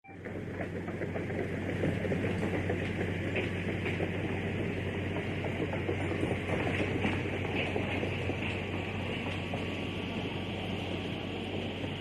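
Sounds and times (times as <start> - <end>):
engine running with crackle: 0.0 - 12.0.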